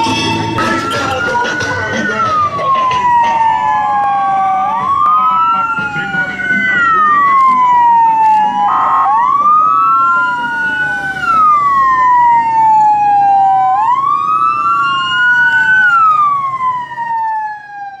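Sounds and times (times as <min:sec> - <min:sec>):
police sirens wailing: 0:00.0 - 0:18.0.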